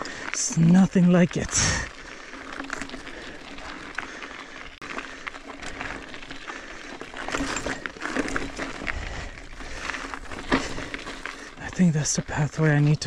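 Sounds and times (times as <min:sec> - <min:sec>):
bike clicks and rattles: 0:00.0 - 0:13.0
bike tyres crunching on gravel: 0:00.0 - 0:13.0.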